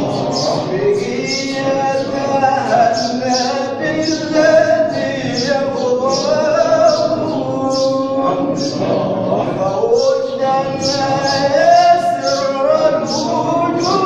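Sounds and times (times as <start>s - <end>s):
man singing ornamented melody: 0.0s - 14.0s
voices chanting together: 0.0s - 14.0s.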